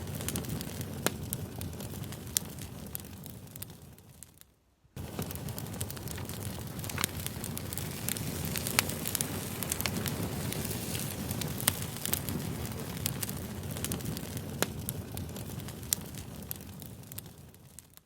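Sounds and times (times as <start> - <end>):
burning wood rushing: 0.0 - 4.2, 5.0 - 18.0
campfire pops and snaps: 0.0 - 18.0.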